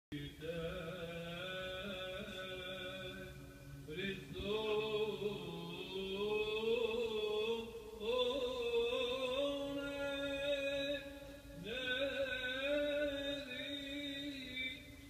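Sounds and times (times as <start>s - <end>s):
person chanting a hymn: 0.1s - 15.0s.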